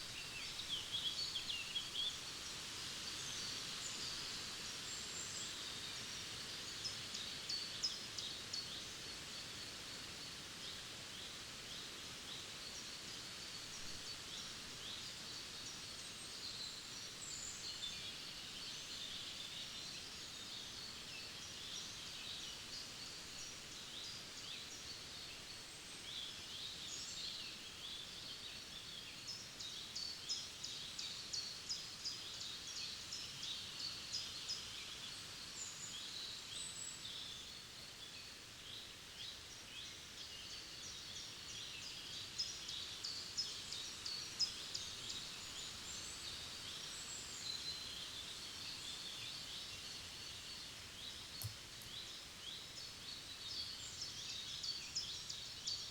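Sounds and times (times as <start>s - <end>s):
faint background hiss: 0.0s - 55.9s
songbirds singing and chirping: 0.0s - 55.9s.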